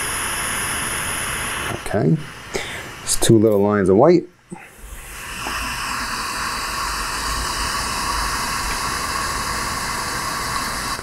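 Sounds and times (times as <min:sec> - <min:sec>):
torch flame hissing: 0:00.0 - 0:03.4, 0:04.5 - 0:11.0.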